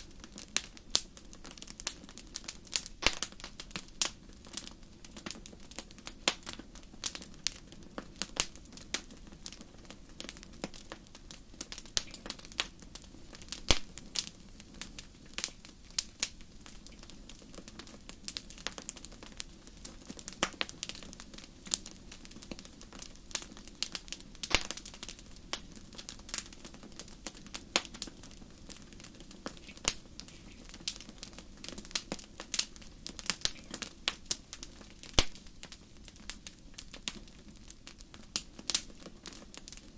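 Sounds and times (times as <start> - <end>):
campfire crackling and popping: 0.0 - 39.9
low rush of fire: 0.0 - 39.9.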